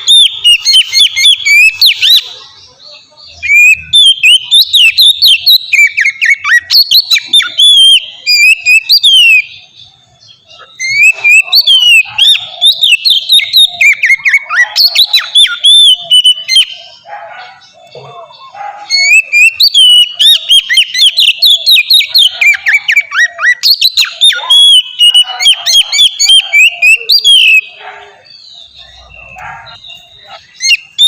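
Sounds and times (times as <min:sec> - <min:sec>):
bird singing whistled trills: 0:00.0 - 0:31.0.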